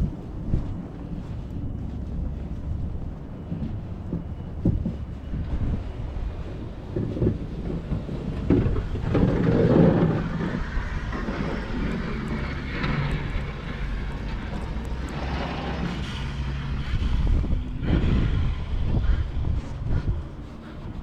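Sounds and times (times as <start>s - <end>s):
low vehicle rumble: 0.0s - 21.0s
steady engine hum: 0.0s - 21.0s
wind on microphone: 0.0s - 21.0s.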